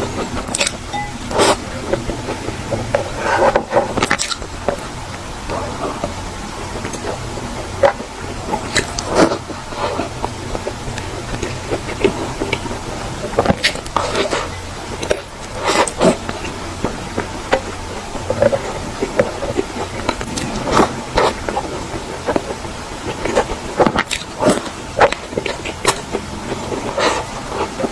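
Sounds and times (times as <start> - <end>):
crunching and chewing: 0.0 - 27.9.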